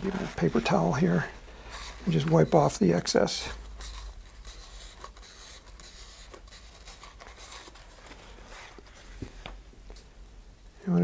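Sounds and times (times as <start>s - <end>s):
paper towel rustling: 0.0s - 10.1s.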